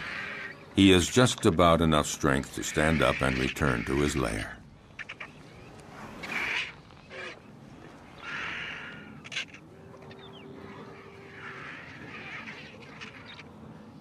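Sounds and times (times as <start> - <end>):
rough bird calls: 0.0 - 0.8, 2.3 - 7.5, 8.1 - 13.8.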